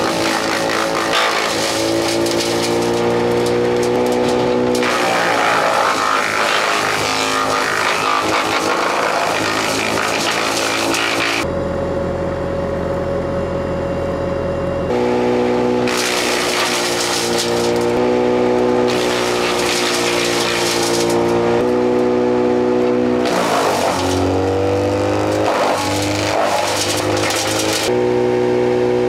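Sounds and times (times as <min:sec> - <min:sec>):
brush chipper chipping hiss: 0:00.0 - 0:11.5, 0:14.9 - 0:28.0
diesel engine droning whine: 0:00.0 - 0:29.0.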